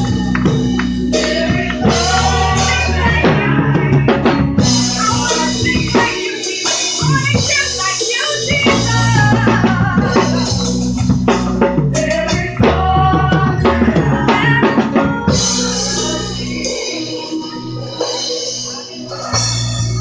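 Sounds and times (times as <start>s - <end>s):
choir singing: 0.0s - 20.0s
live drum kit: 0.0s - 20.0s.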